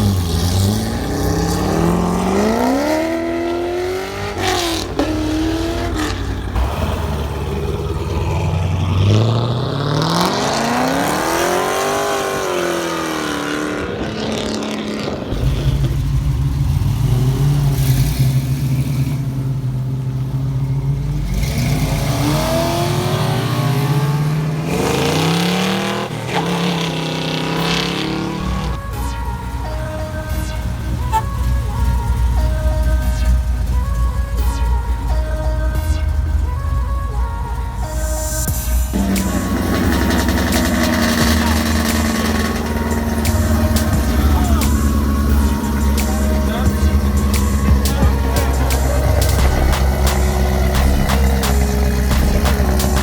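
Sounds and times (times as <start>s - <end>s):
car engines revving and idling: 0.0s - 53.0s.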